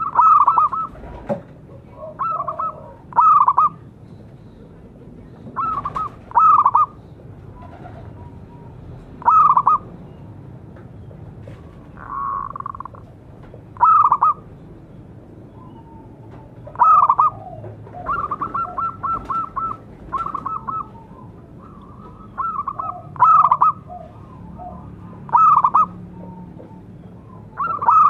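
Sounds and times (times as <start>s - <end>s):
dove cooing: 0.0s - 3.9s, 4.5s - 9.9s, 11.6s - 13.2s, 13.8s - 14.5s, 15.5s - 28.0s.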